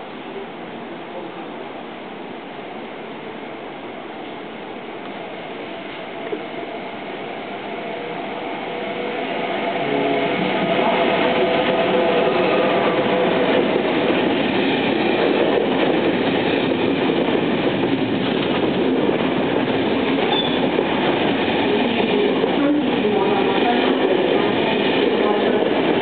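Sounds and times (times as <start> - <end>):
train wheels rushing on rail: 2.6 - 26.0.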